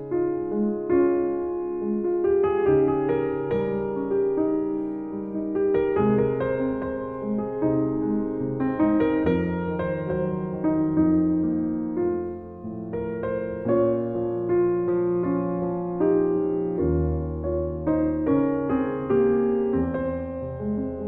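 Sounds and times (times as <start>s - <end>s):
grand piano melody: 0.0s - 21.0s.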